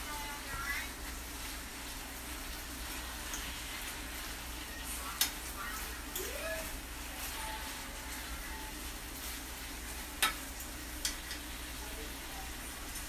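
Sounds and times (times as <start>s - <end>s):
meat sizzling in a skillet: 0.0s - 13.0s
fork stirring in skillet: 0.5s - 13.0s.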